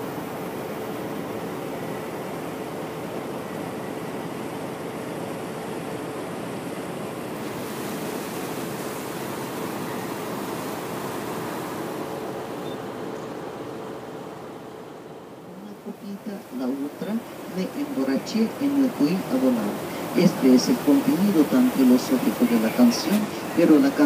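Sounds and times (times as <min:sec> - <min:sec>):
boat rushing through water: 0:00.0 - 0:24.0
faint engine hum: 0:00.0 - 0:24.0
wind: 0:00.0 - 0:24.0.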